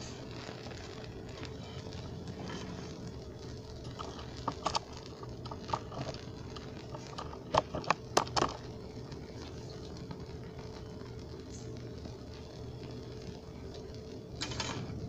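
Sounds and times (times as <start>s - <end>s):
steady low hum: 0.0s - 15.0s
wood shavings crackling and popping: 0.0s - 15.0s.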